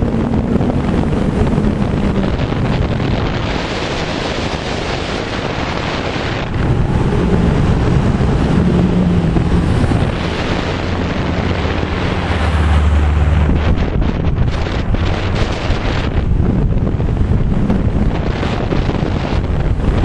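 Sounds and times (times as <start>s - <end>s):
wheels rumbling on asphalt: 0.0s - 20.0s
wind buffeting microphone: 0.0s - 20.0s.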